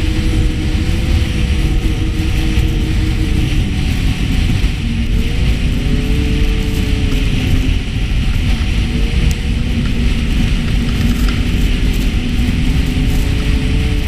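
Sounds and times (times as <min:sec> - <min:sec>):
sled rushing over trail: 0:00.0 - 0:14.0
snowmobile engine running: 0:00.0 - 0:14.0.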